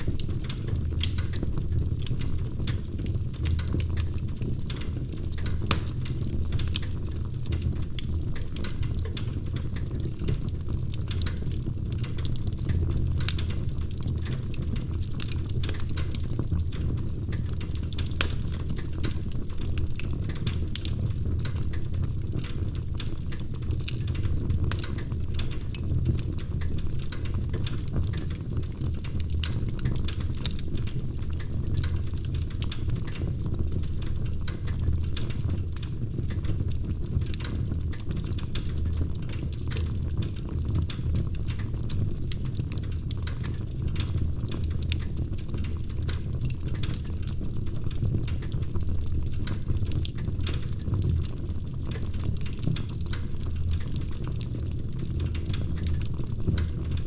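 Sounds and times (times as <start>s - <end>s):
fire crackling and popping: 0.0s - 57.0s
low fire rumble: 0.0s - 57.0s.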